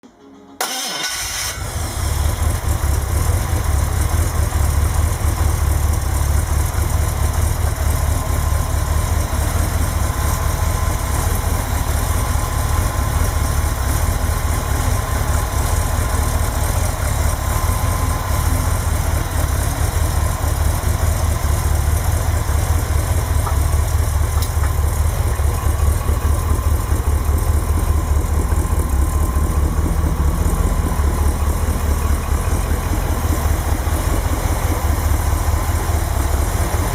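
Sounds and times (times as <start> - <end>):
car engine idling: 0.6 - 36.9.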